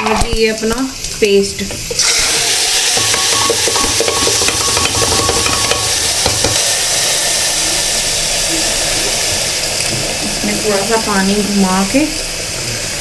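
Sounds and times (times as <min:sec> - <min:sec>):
paste sizzling and spluttering in oil: 0:00.9 - 0:13.0.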